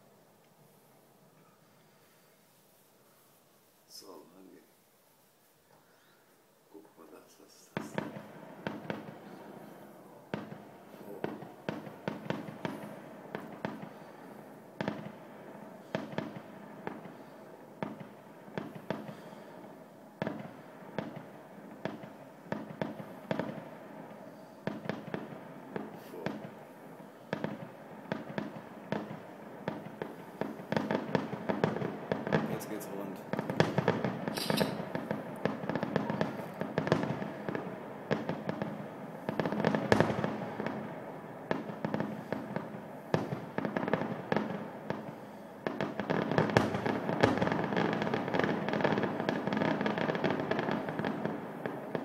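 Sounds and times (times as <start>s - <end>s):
fireworks bursting with echo: 1.6s - 4.7s, 5.9s - 52.0s.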